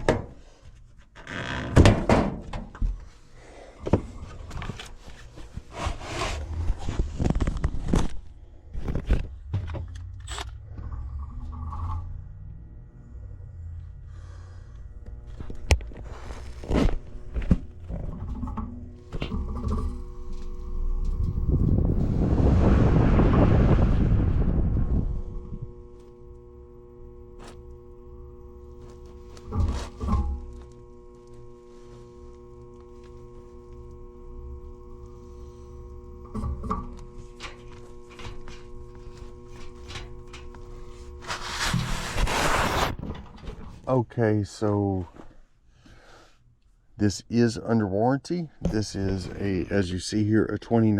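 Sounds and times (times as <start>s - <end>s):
blower motor humming: 0.0s - 50.9s.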